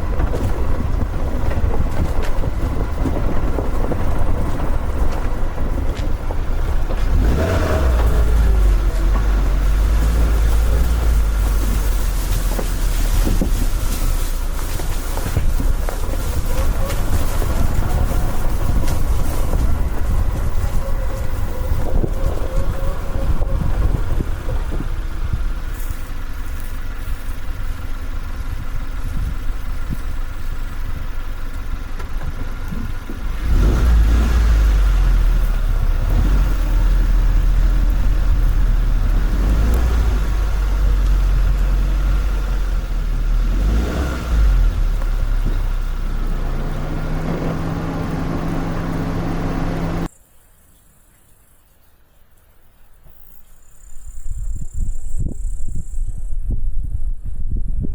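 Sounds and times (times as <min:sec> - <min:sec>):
engine running: 0:00.0 - 0:50.2.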